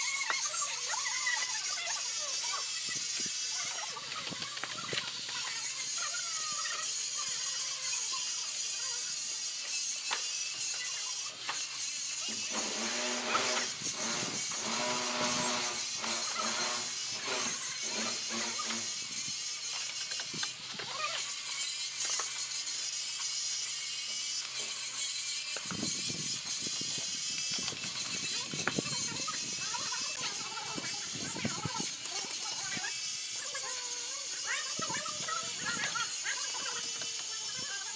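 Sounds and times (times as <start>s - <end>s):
trowel scraping mortar on tiles: 5.3s - 37.9s.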